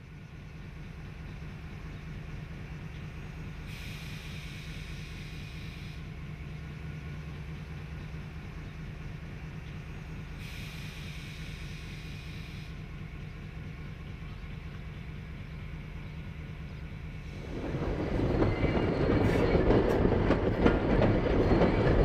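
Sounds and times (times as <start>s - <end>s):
diesel locomotive idling: 0.0s - 22.0s.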